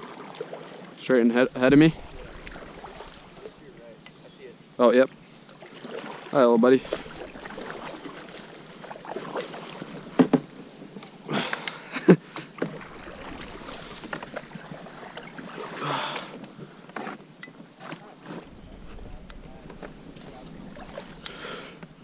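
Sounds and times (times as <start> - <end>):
paddle splashing in water: 0.0 - 4.0, 5.4 - 17.2, 17.8 - 22.0.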